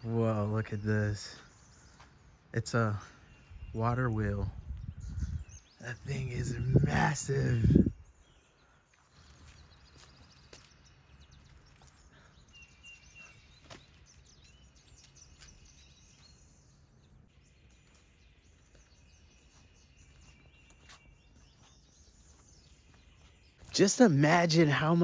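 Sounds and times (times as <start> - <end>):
bird chirps and calls: 0.0 - 25.0.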